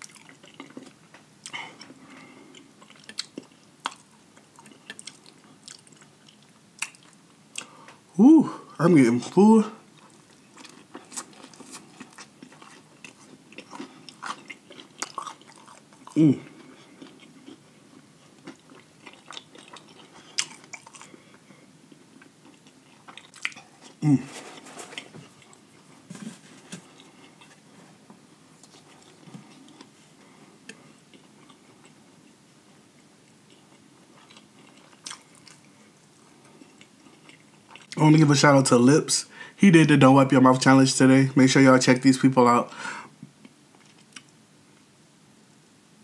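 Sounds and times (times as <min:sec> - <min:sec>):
man chewing food: 0:00.0 - 0:08.0, 0:09.8 - 0:38.0, 0:43.2 - 0:44.9.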